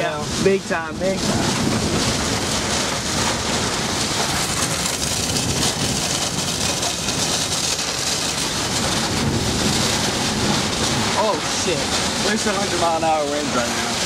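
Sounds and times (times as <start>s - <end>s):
rain hitting a car: 0.0s - 14.0s
strong wind on a car: 0.0s - 14.0s.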